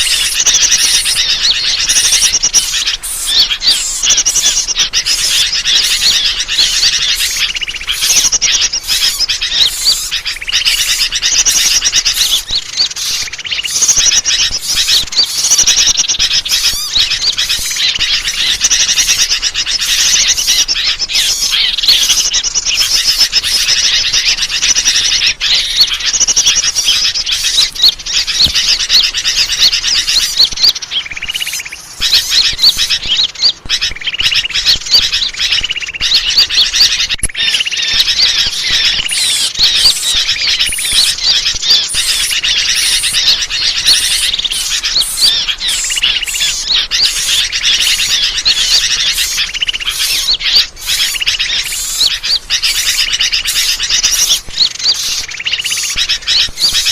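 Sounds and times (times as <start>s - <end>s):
chorus of small birds chirping: 0.0s - 56.9s.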